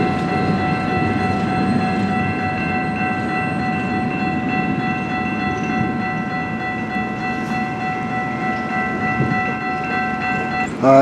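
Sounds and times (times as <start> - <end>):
crossing bell ringing: 0.0 - 11.0
freight train rumbling: 0.0 - 11.0.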